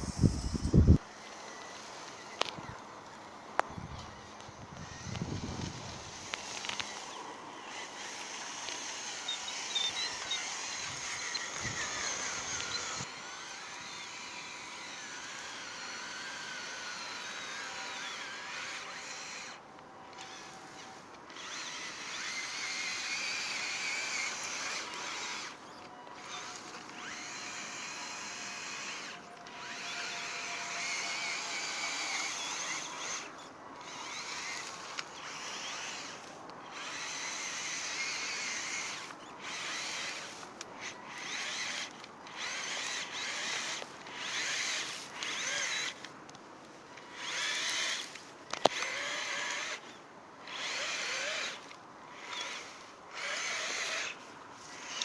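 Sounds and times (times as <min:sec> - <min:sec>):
electric motors whining: 0:00.0 - 0:46.1, 0:46.9 - 0:55.0.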